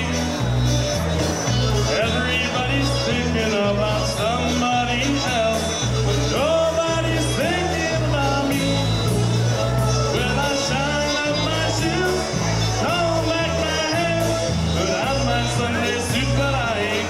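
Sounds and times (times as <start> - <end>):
person singing: 0.0 - 17.0
polka band playing: 0.0 - 17.0.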